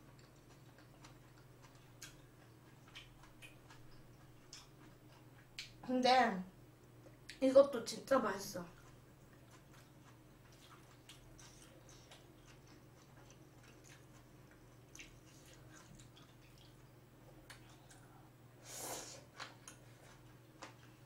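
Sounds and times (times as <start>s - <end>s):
faint crunchy chewing: 0.0s - 5.8s, 8.7s - 18.3s, 19.1s - 21.0s.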